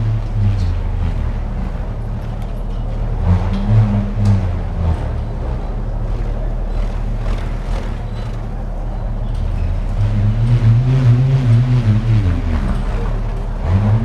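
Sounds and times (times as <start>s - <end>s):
bullroarer pulsing drone: 0.0s - 14.0s.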